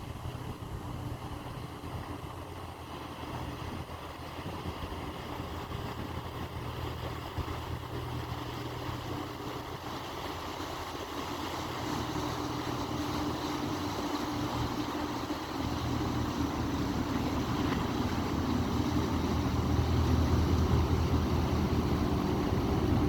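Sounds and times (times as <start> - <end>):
ferry engines humming: 0.0 - 23.0.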